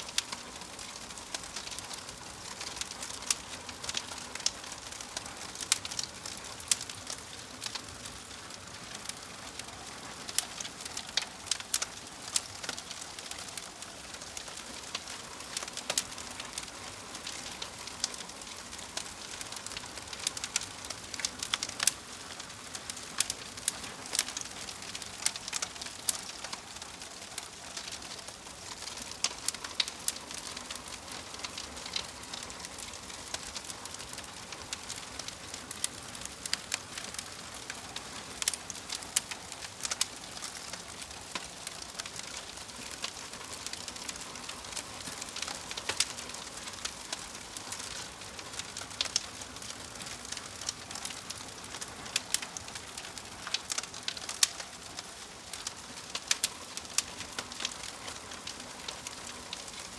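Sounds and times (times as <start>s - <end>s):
logs crackling in a fireplace: 0.0s - 59.9s
steady fire hiss: 0.0s - 59.9s
sharp popping of fire: 10.3s - 59.9s.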